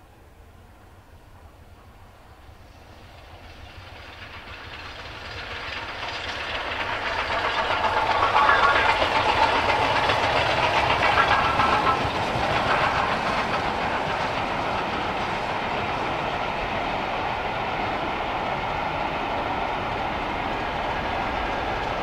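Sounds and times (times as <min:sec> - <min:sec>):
steam train passing at speed: 0:00.0 - 0:22.0
train wheels running over rails: 0:00.7 - 0:22.0.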